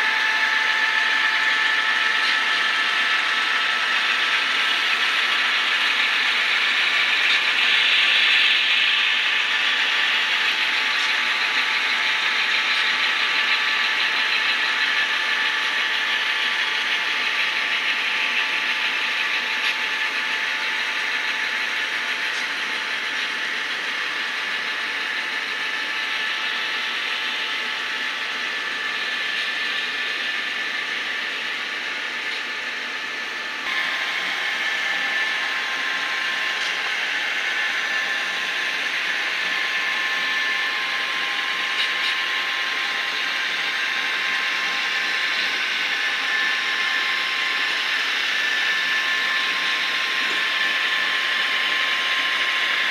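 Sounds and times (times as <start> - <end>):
model train motors whirring: 0.0 - 52.9.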